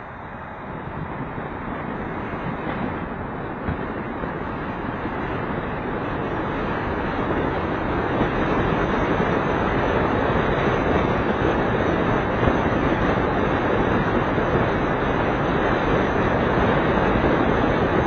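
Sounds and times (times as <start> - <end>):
tyres on asphalt: 0.0 - 18.0.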